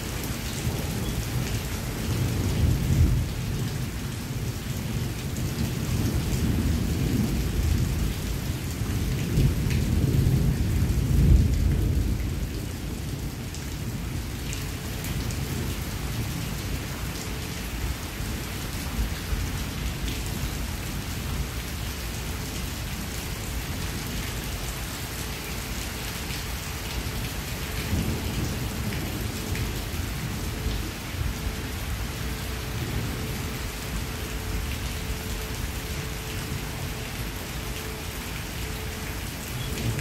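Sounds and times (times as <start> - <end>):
heavy rain on foliage: 0.0 - 40.0.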